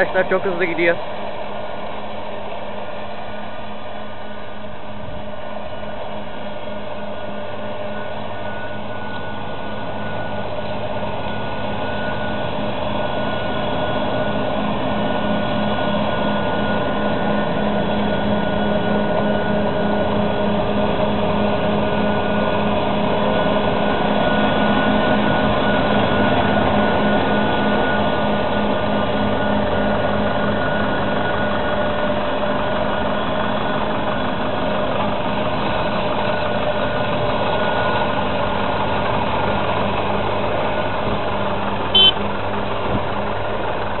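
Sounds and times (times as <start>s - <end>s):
tractor engine running under load: 0.0s - 44.0s.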